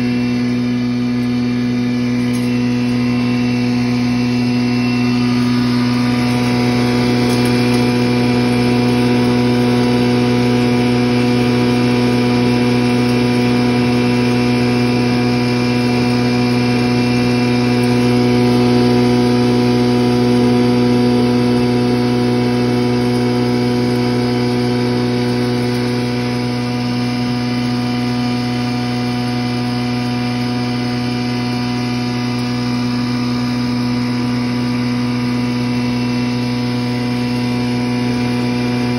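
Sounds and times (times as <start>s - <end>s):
straw grinder machine humming: 0.0s - 38.9s.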